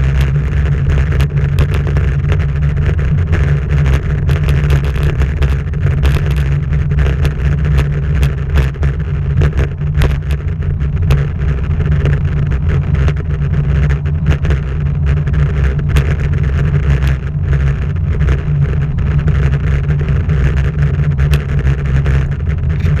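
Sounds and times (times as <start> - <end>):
clicks and rattles from bumps: 0.0 - 23.0
wind rumble: 0.0 - 23.0.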